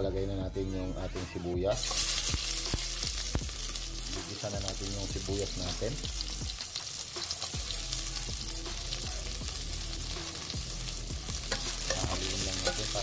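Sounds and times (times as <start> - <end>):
onions sizzling in hot oil: 1.7 - 13.0.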